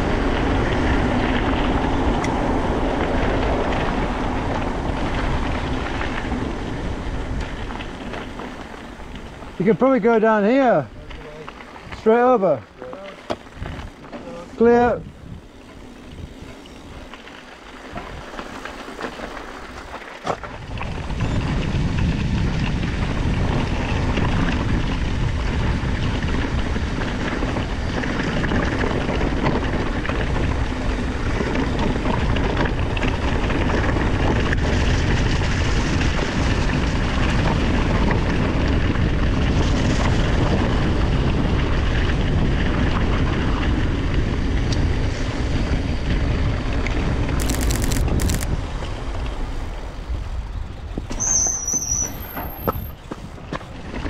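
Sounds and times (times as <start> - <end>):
wind noise on microphone: 0.0 - 9.8, 13.4 - 14.1, 14.8 - 18.7, 19.3 - 54.0
bike rattling over ground: 0.0 - 54.0.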